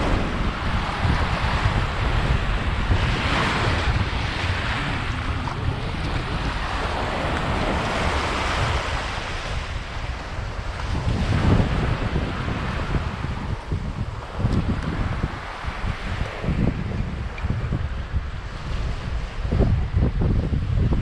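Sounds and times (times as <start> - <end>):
small waves washing onto sand: 0.0 - 21.0
wind buffeting microphone: 0.0 - 21.0.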